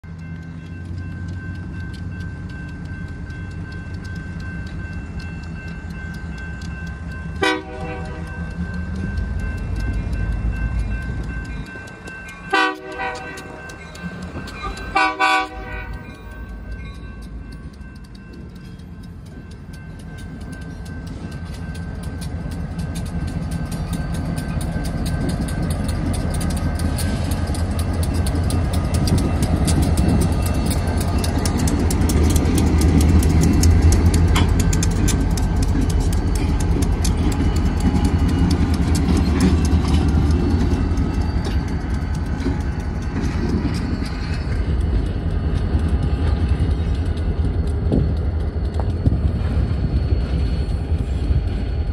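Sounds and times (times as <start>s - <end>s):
diesel locomotive engines rumbling: 0.0s - 51.9s.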